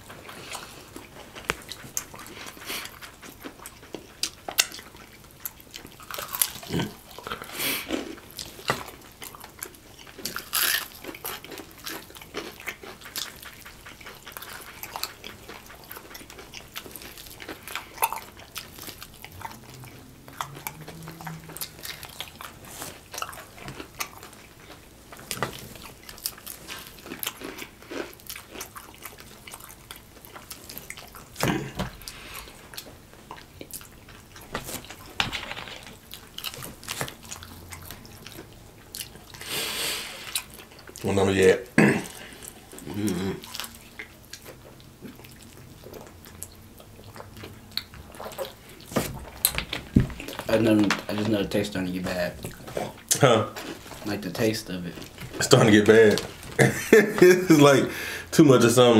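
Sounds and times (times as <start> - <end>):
chewing fried chicken: 0.0 - 58.9.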